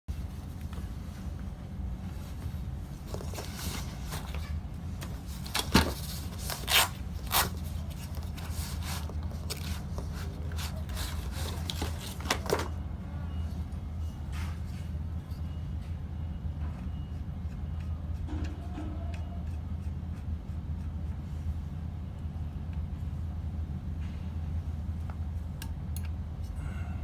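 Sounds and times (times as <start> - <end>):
steady low hum: 0.1 - 27.0.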